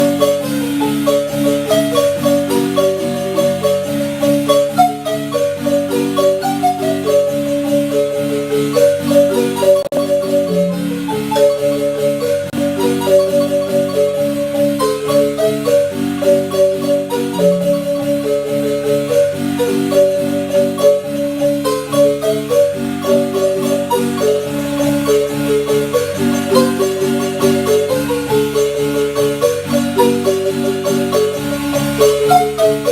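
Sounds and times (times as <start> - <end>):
marimba music: 0.0 - 32.9.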